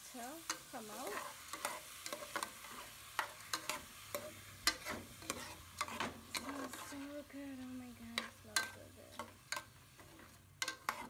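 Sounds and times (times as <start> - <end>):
faint sizzle: 0.0 - 11.0
metal spoon scraping a pot: 0.5 - 11.0.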